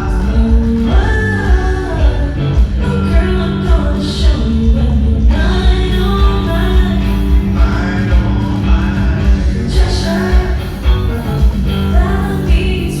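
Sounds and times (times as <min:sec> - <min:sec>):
heavy bass beat: 0:00.0 - 0:13.0
live band music: 0:00.0 - 0:13.0
person singing: 0:00.0 - 0:13.0.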